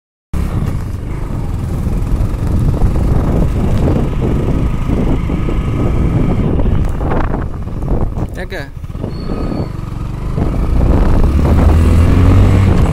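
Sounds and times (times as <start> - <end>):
vehicle engine and road noise: 0.4 - 12.9.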